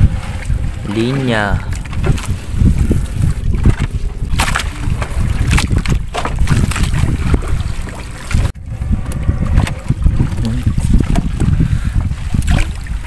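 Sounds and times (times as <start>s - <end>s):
steady low rumble: 0.0s - 13.0s
water splashes: 0.0s - 13.0s.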